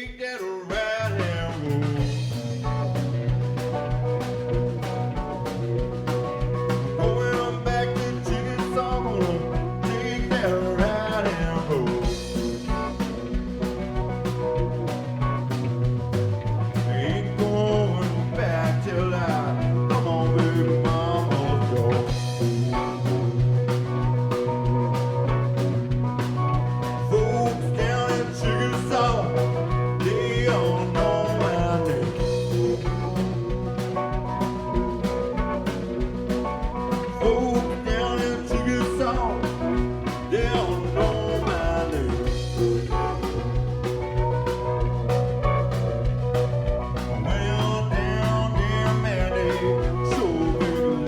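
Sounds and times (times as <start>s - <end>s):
blues-rock band playing live: 0.0s - 51.0s
drums beating steadily: 0.0s - 51.0s
electric guitar: 0.0s - 51.0s
bass line: 0.7s - 51.0s.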